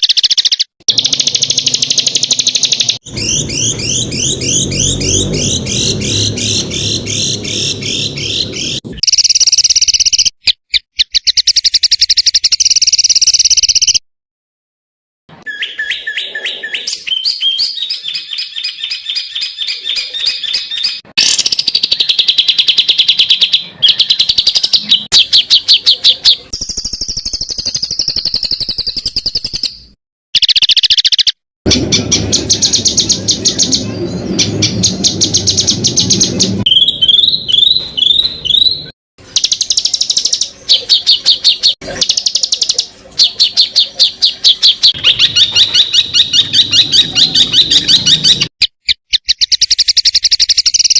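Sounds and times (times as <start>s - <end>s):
bird song harsh chattering trills: 0.0s - 14.0s, 15.3s - 50.9s.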